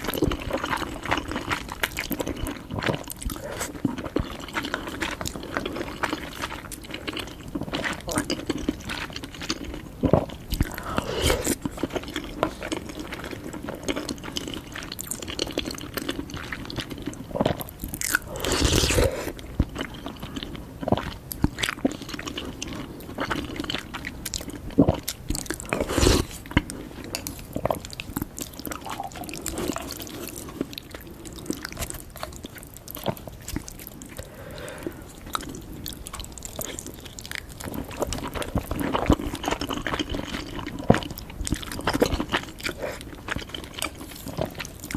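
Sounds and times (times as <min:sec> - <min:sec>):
person chewing noodles: 0:00.0 - 0:44.9.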